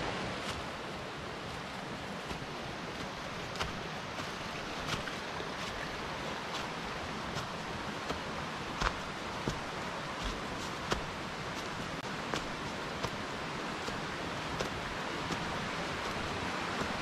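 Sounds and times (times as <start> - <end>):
footsteps on rocky forest trail: 0.0 - 17.0
steady rushing noise: 0.0 - 17.0.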